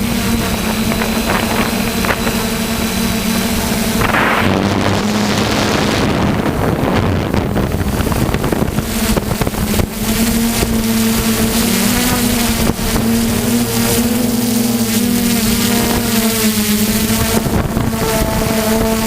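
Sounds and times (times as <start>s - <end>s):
drone propellers buzzing: 0.0s - 19.0s
wind rush on microphone: 0.0s - 19.0s.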